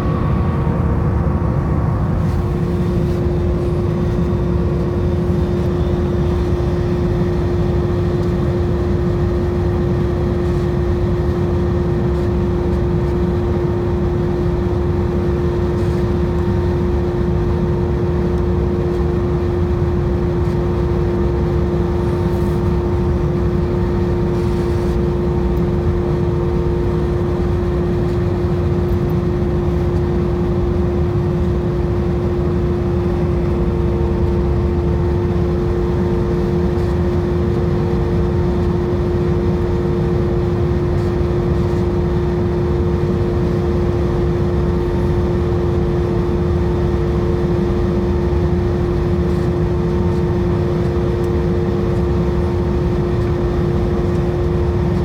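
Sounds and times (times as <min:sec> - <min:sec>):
airliner cabin engine drone: 0:00.0 - 0:55.0
steady humming tone: 0:00.0 - 0:55.0.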